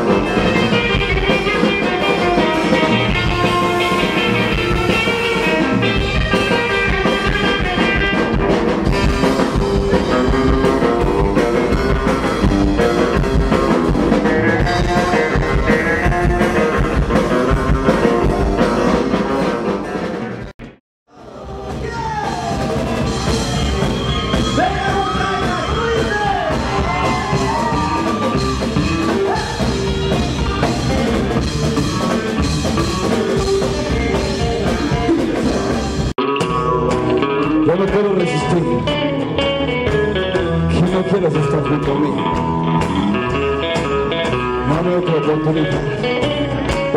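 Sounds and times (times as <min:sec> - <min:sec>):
rockabilly band playing: 0:00.0 - 0:46.9.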